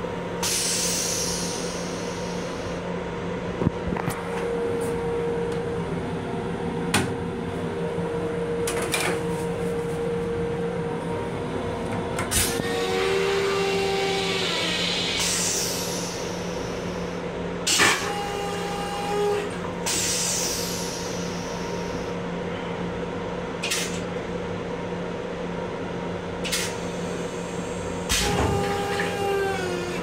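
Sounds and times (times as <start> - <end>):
railcar running hum: 0.0 - 30.0.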